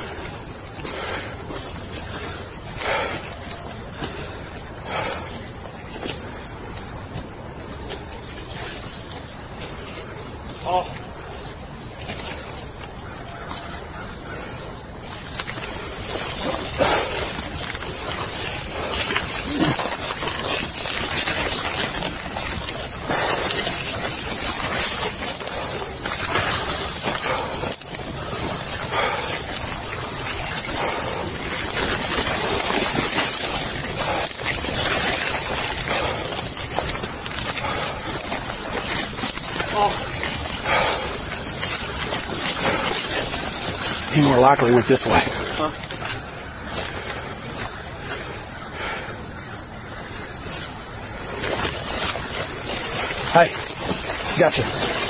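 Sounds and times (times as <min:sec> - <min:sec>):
brush rustling: 0:00.0 - 0:55.0
high insect drone: 0:00.0 - 0:55.0
footsteps crunching dry leaves: 0:05.6 - 0:55.0.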